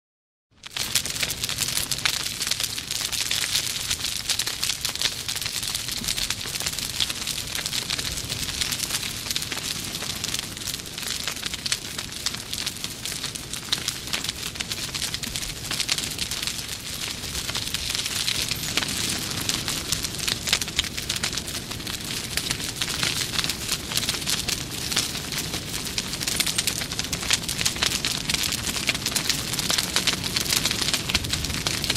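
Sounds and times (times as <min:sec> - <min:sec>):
bonfire crackling and popping: 0:00.6 - 0:31.9
fire hissing: 0:00.7 - 0:31.9.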